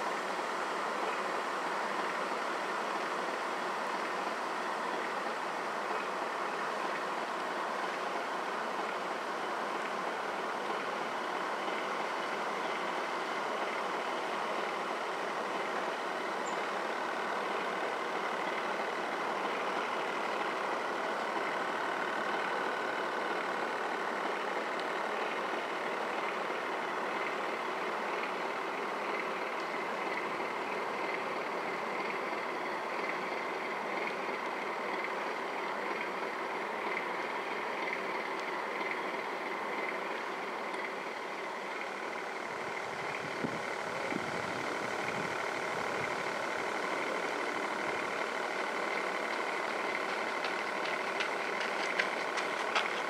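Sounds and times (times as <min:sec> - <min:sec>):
model boat motor hum: 0:00.0 - 0:53.0.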